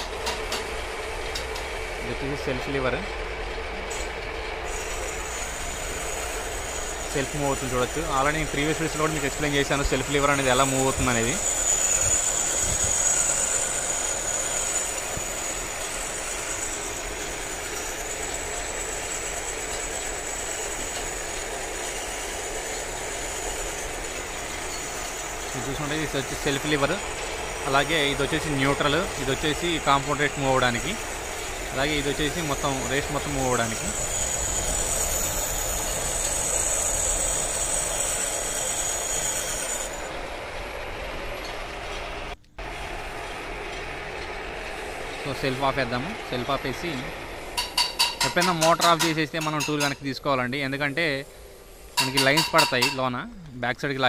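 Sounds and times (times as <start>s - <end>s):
lathe machine clatter: 0.0s - 53.2s
thin high whine: 0.0s - 54.0s.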